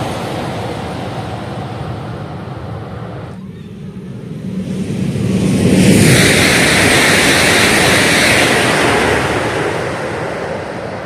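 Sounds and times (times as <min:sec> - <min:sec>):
high-speed train passing: 0:00.0 - 0:11.0.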